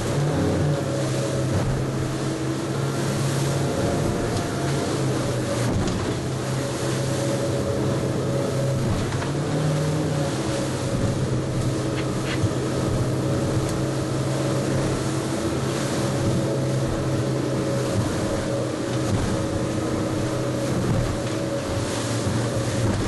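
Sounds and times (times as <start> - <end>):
boat engine humming: 0.0 - 23.0
sea and wind rushing: 0.0 - 23.0.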